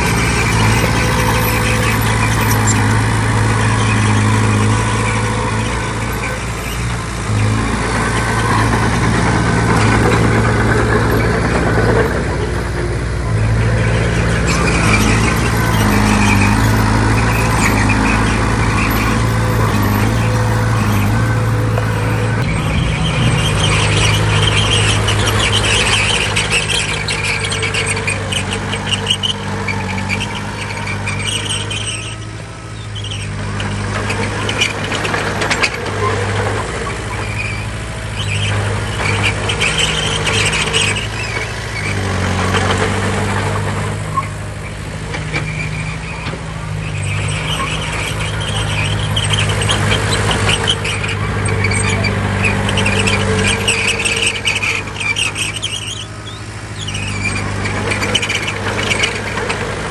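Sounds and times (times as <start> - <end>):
diesel earthmoving machinery: 0.0 - 59.9
high-pitched squeaks: 0.0 - 59.9.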